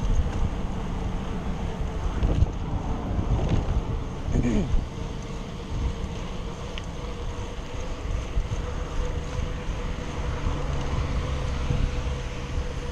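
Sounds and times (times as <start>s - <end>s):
bicycle rolling rumble: 0.0s - 12.9s
wind buffeting microphone: 0.0s - 12.9s.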